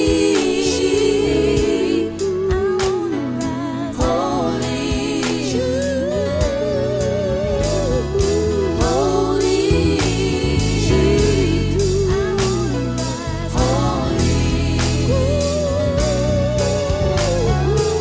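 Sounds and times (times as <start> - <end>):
gospel song with lead vocal: 0.0 - 18.0.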